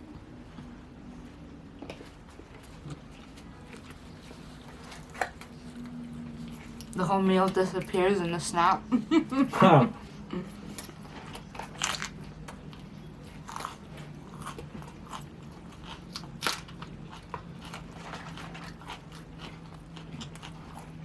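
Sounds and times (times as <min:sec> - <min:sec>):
low steady hum: 0:00.0 - 0:21.0
crunchy chewing: 0:00.5 - 0:07.0, 0:10.1 - 0:21.0.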